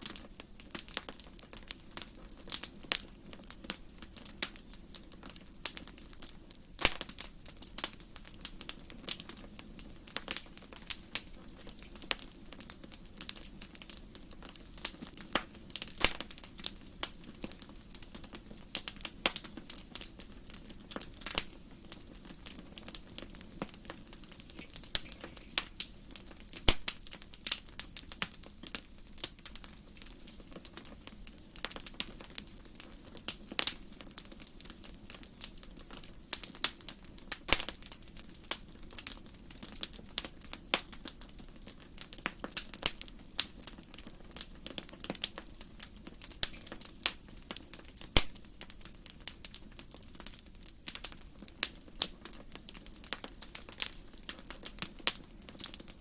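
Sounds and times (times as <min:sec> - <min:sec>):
fire low hiss: 0:00.0 - 0:56.0
wood fire crackling and popping: 0:00.0 - 0:56.0.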